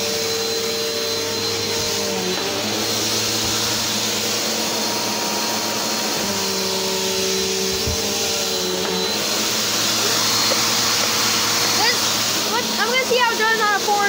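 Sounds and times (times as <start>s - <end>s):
vacuum cleaner running on carpet: 0.0s - 14.0s.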